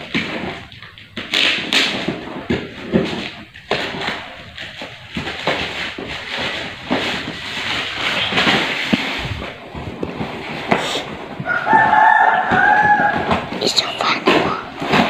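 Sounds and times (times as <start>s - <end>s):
cardboard box scraping on tiles: 0.0s - 15.0s
plastic wrap and tape rustling: 0.0s - 15.0s.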